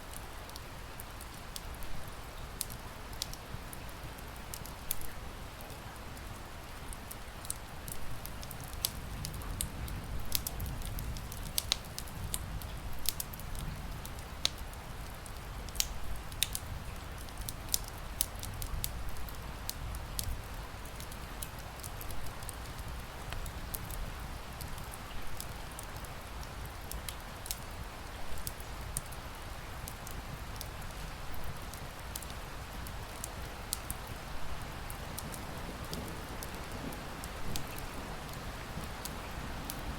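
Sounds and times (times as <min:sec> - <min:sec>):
rain hiss: 0:00.0 - 0:39.9
wood fire crackling and popping: 0:00.1 - 0:39.9.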